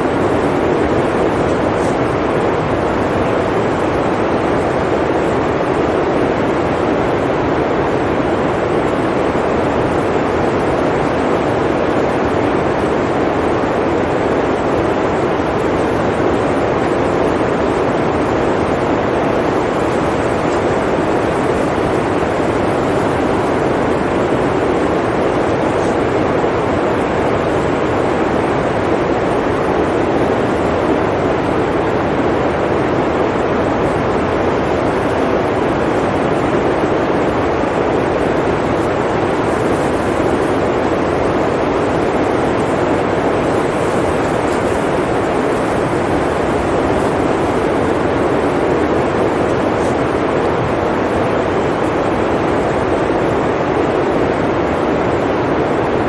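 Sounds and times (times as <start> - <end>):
blizzard wind blowing: 0.0 - 56.0.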